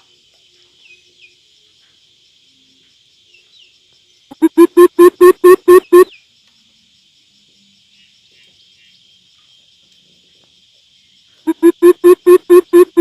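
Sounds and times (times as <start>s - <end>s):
faint high insect buzz: 0.0s - 13.0s.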